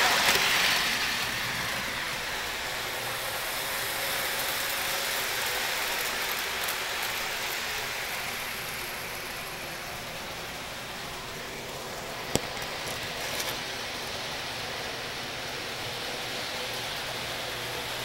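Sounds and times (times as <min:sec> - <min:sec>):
model train whirring: 0:00.0 - 0:18.0.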